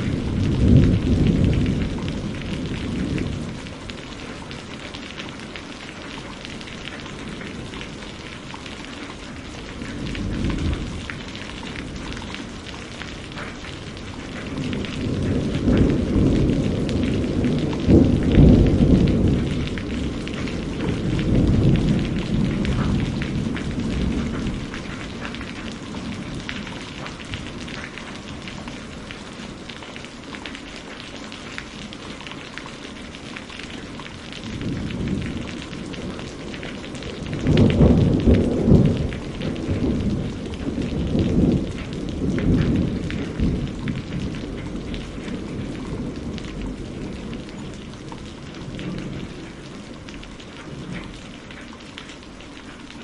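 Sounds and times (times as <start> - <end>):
thunder rumbling: 0.0 - 32.4, 33.0 - 51.5
rain pattering: 0.0 - 53.0.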